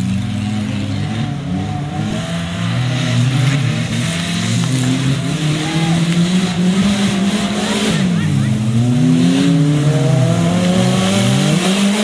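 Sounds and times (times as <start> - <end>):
race vehicle engine revving: 0.0 - 12.0.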